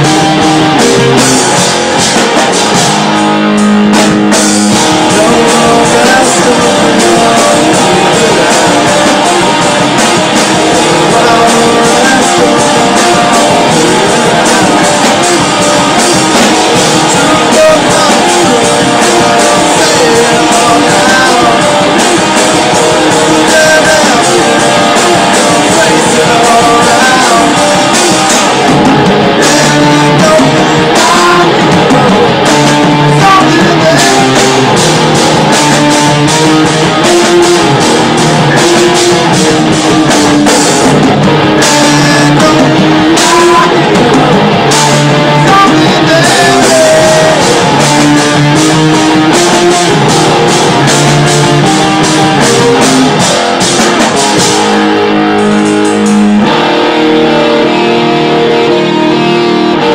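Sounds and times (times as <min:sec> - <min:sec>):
drum kit: 0:00.0 - 0:59.9
electric guitars: 0:00.0 - 0:59.9
person singing: 0:00.0 - 0:59.9.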